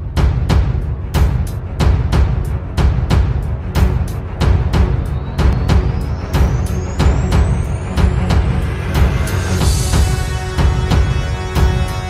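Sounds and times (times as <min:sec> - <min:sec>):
dramatic soundtrack music: 0:00.0 - 0:12.0
heavy driving drum beat: 0:00.0 - 0:12.0.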